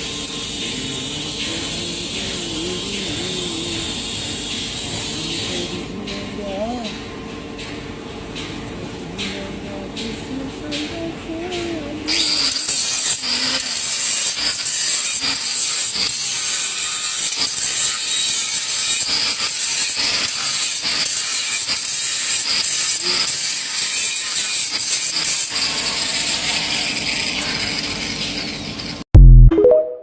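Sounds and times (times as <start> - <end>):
welding arc hissing and crackling: 0.0 - 7.0, 9.5 - 29.0.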